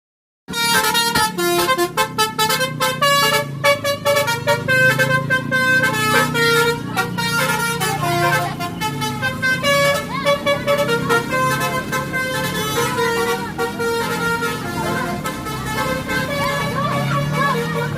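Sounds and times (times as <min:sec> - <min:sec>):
musical bus horn melody: 0:00.5 - 0:17.9.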